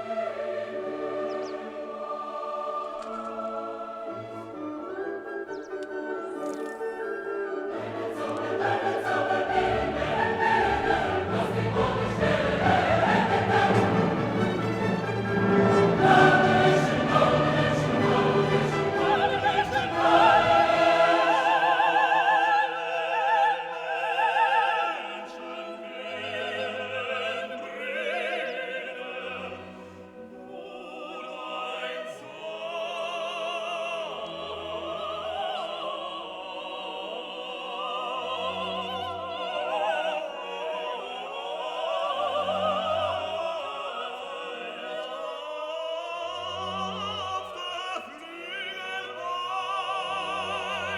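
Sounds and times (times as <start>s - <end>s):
operatic singing with orchestra: 0.0s - 50.9s.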